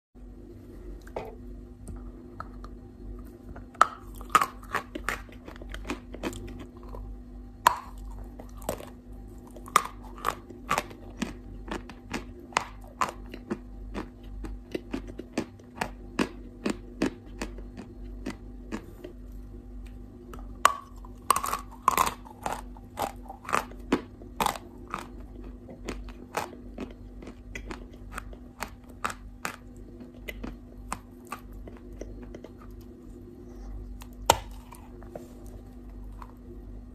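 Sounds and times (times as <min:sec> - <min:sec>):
faint low hum: 0:00.2 - 0:36.9
chewing crunchy chalk: 0:03.2 - 0:07.1, 0:07.7 - 0:19.4, 0:20.3 - 0:36.5.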